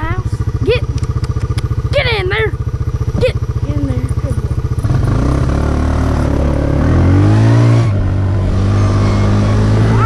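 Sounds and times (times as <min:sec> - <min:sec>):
atv engine accelerating: 0:00.0 - 0:10.0.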